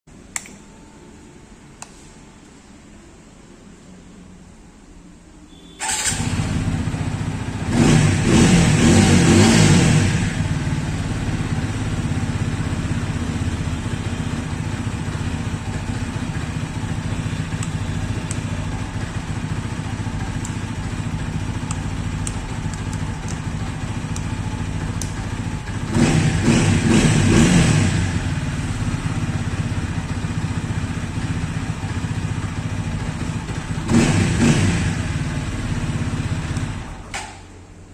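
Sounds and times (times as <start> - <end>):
motorcycle engine starting and revving: 5.8 - 37.8.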